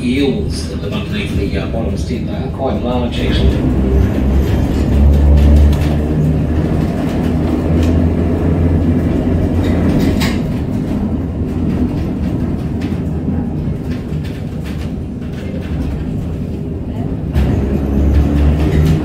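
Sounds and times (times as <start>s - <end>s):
electric tram rumbling on rails: 0.0s - 19.0s.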